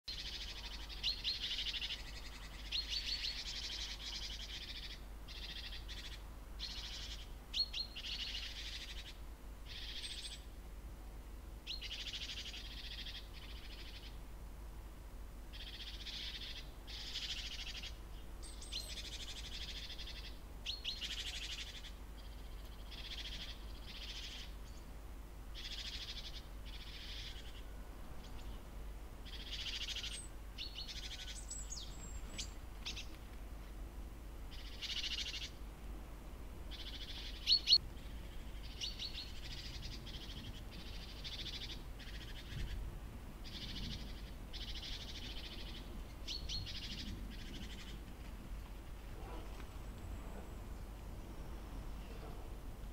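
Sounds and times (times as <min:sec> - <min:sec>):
songbirds rasping calls: 0:00.1 - 0:10.6, 0:11.7 - 0:14.2, 0:15.5 - 0:33.2, 0:34.5 - 0:35.6, 0:36.6 - 0:42.8, 0:43.4 - 0:48.1.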